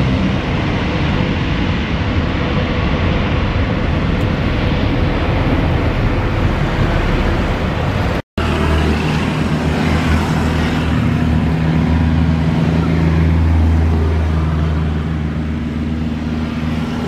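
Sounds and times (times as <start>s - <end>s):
airliner engines droning: 0.0s - 17.0s
jet engine noise: 0.0s - 17.0s.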